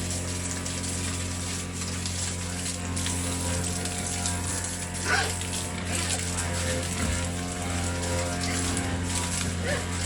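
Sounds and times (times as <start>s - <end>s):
electric water pump humming: 0.0s - 10.0s
water spraying from a hose: 0.0s - 10.0s.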